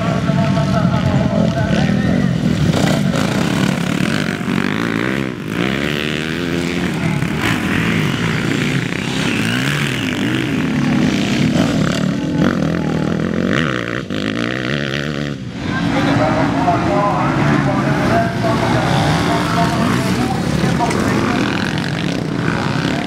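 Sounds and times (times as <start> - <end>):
motocross bike engines revving: 0.0 - 23.0.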